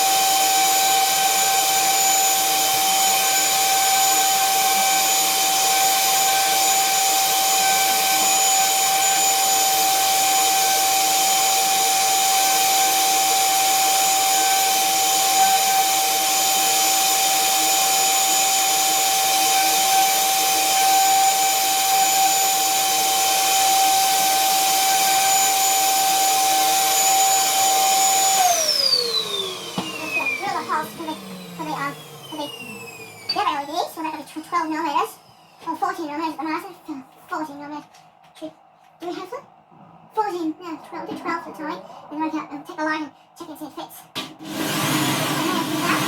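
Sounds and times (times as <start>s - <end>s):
electric drill whining: 0.0s - 35.7s, 44.2s - 46.0s.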